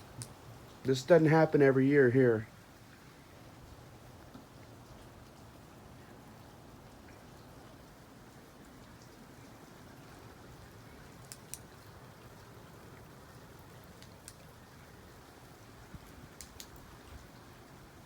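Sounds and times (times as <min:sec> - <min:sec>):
faint steady hiss of snowfall: 0:00.0 - 0:18.0.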